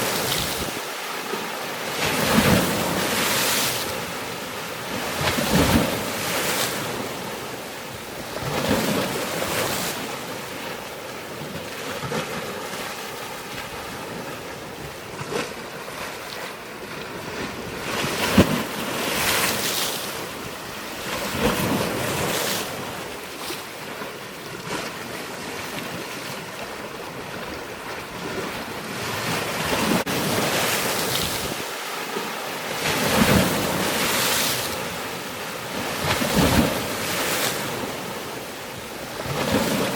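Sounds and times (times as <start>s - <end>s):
waves washing in: 0.0s - 39.9s.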